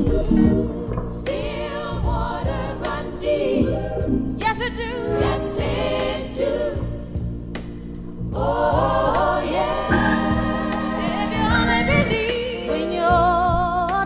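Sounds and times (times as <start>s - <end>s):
gospel soul song: 0.0s - 14.0s.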